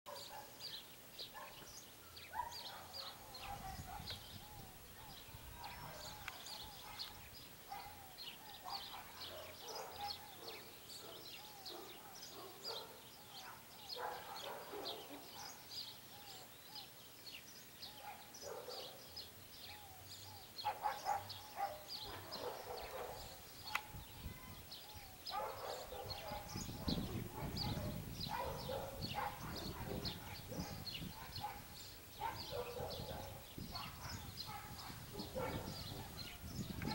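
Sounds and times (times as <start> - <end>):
birds chirping: 0.1 - 36.9.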